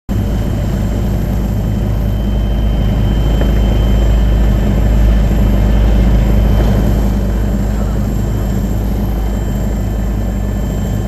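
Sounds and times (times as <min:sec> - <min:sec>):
aircraft engine drone: 0:00.1 - 0:11.0.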